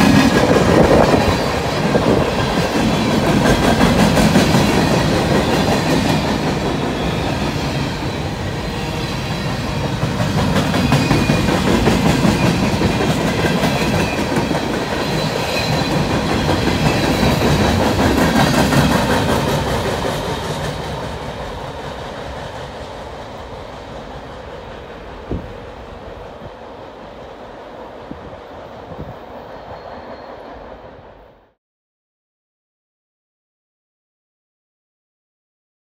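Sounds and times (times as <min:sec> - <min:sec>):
freight train wheels rumbling: 0:00.0 - 0:31.6.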